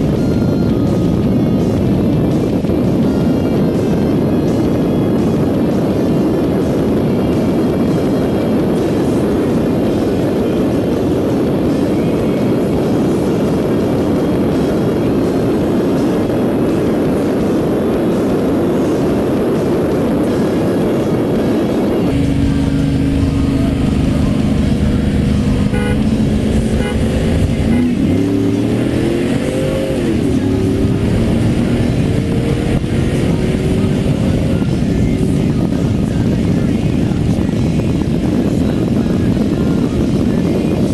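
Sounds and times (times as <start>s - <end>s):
truck engine idling and revving: 0.0s - 40.9s
truck engine roaring: 0.0s - 40.9s
wind rush: 0.0s - 40.9s.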